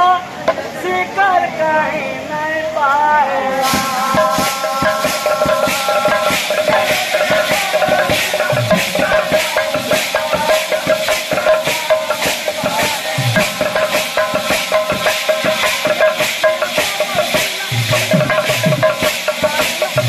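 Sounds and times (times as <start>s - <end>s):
barrel drum strokes: 3.6s - 20.0s
cymbals clashing: 3.6s - 20.0s.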